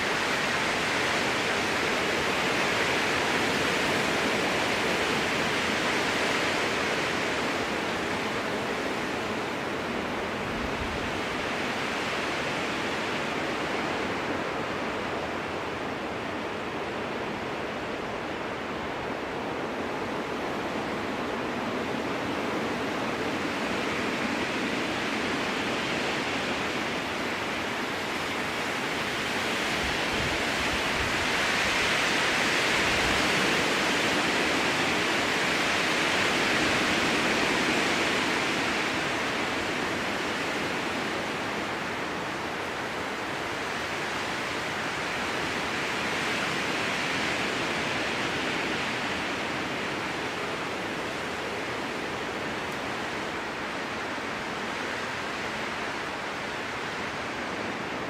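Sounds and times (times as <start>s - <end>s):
strong wind through trees: 0.0s - 58.0s.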